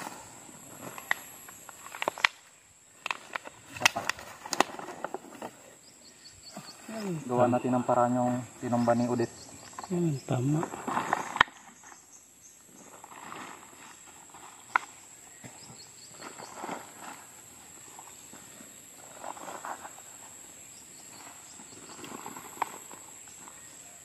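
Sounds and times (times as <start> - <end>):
crickets trilling: 0.0 - 24.0
soil and roots rustling by hand: 0.0 - 24.0.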